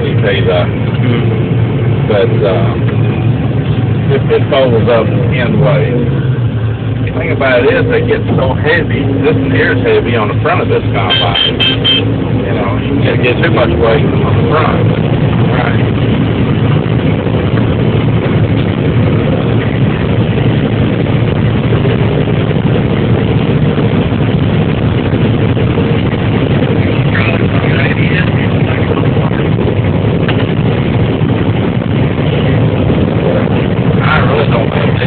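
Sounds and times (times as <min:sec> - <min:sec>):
combine harvester engine hum: 0:00.0 - 0:35.0.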